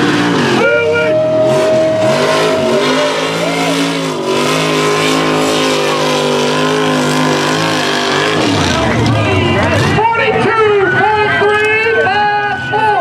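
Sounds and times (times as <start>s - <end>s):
truck engine running hard: 0.0s - 13.0s.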